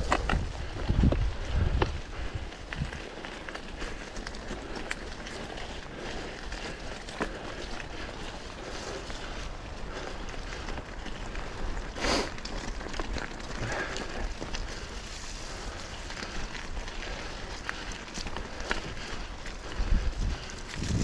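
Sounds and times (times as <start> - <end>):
bike clicks and rattles: 0.0 - 21.0
bike tyres on gravel: 0.0 - 21.0.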